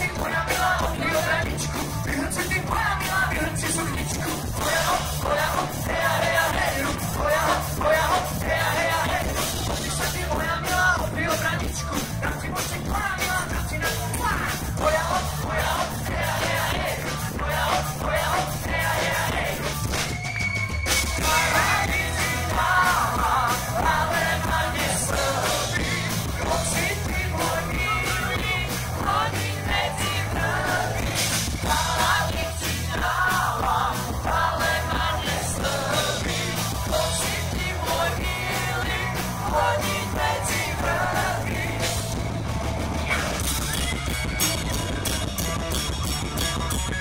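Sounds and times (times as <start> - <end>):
bass line: 0.0 - 47.0
drum hits: 0.0 - 47.0.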